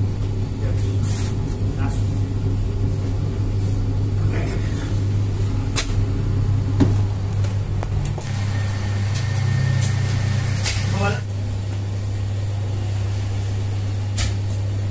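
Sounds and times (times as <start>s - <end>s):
bakery equipment humming: 0.0s - 14.9s.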